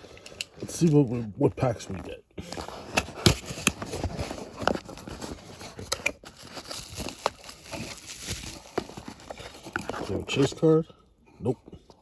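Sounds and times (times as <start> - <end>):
packaging rustling and crinkling: 0.0 - 10.8.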